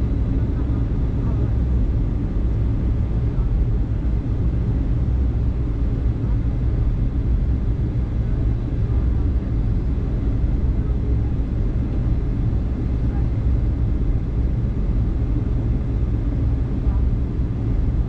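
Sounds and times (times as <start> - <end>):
airliner engine rumble in flight: 0.0 - 18.0.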